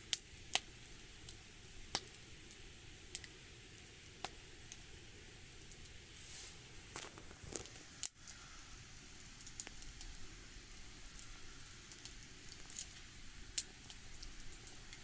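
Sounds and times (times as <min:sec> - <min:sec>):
fire hissing: 0:00.0 - 0:15.0
wood fire crackling and popping: 0:00.0 - 0:15.0.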